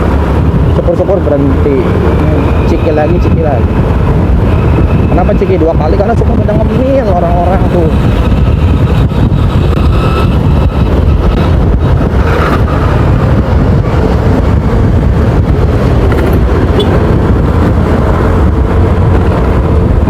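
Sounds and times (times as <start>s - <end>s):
motorcycle engine and road noise: 0.0s - 20.0s.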